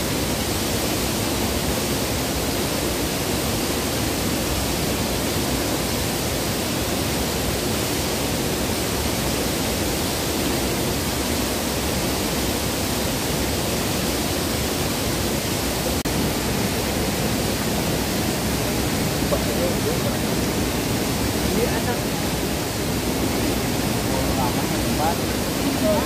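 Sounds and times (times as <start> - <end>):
river rushing over rocks: 0.0 - 26.0.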